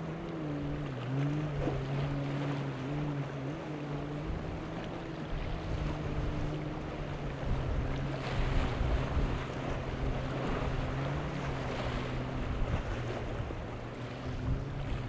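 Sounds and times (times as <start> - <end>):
boat engine humming: 0.0 - 15.0
waves breaking in surf: 0.0 - 15.0
wind on microphone: 0.6 - 15.0.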